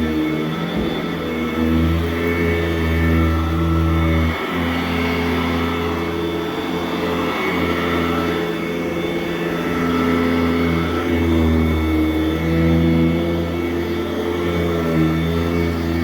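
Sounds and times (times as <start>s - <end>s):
vacuum cleaner running on carpet: 0.0s - 16.0s.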